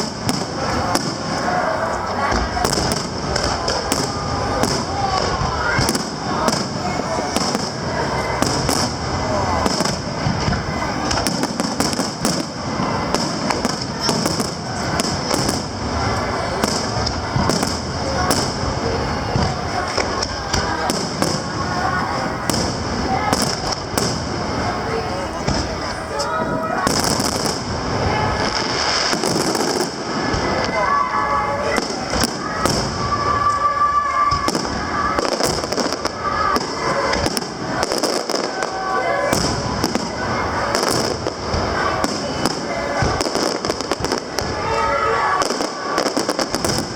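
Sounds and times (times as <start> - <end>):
fireworks bangs and cracks: 0.0 - 46.9
fireworks crackling: 0.0 - 46.9.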